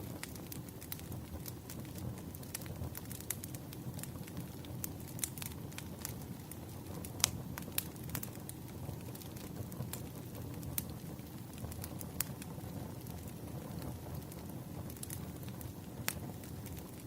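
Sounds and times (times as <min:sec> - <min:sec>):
campfire flames rumbling: 0:00.0 - 0:17.0
wood crackling and popping: 0:00.0 - 0:17.0.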